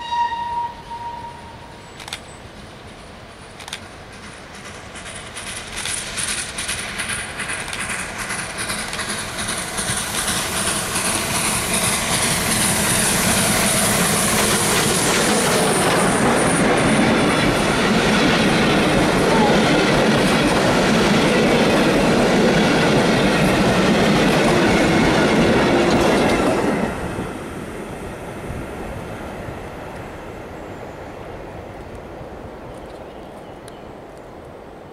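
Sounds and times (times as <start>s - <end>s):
steam locomotive passing: 0.0s - 34.9s
carriages clattering on rails: 1.7s - 30.8s.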